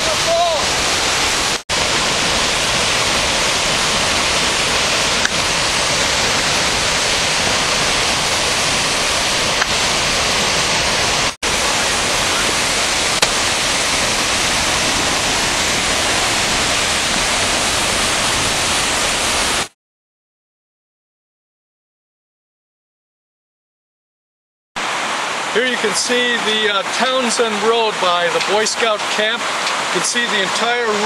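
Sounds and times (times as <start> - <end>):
floodwater rushing rumble: 0.0 - 19.7, 24.8 - 31.0.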